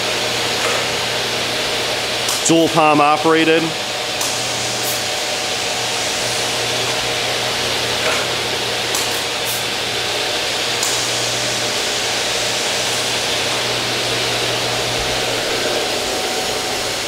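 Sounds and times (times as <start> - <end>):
saw motors whirring: 0.1 - 17.0.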